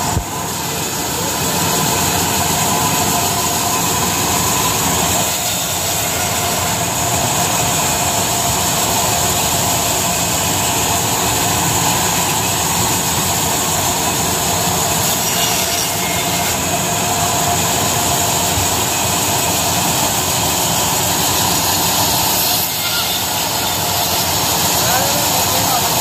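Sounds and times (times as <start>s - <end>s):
band saw cutting log: 0.0s - 26.0s.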